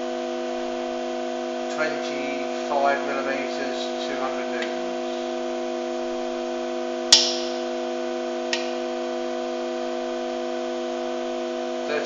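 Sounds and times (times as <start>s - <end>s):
testing machine hum: 0.0s - 12.0s.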